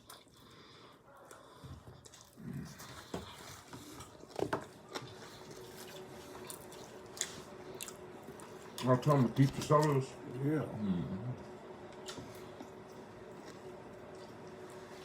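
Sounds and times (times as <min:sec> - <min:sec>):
chewing pizza: 0:00.0 - 0:15.0.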